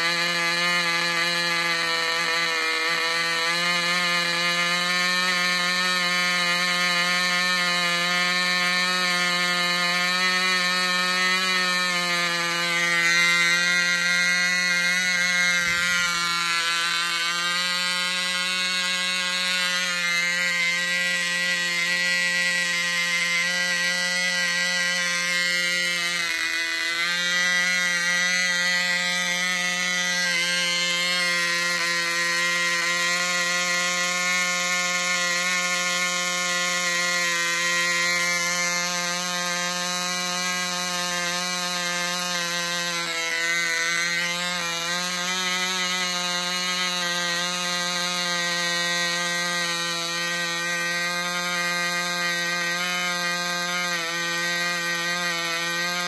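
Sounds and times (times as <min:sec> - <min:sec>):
model plane engine running: 0:00.0 - 0:56.0.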